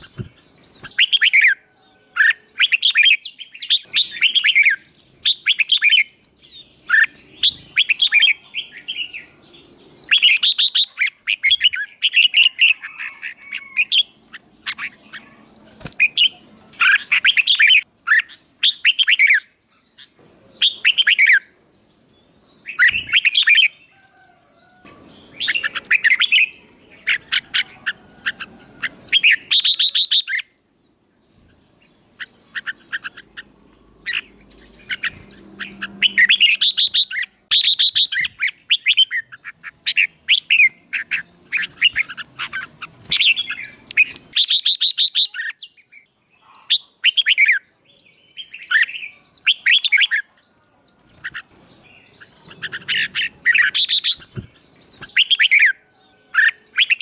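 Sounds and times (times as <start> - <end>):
songbird chirping and whistling: 0.0 - 21.5, 22.3 - 30.6, 31.3 - 57.0.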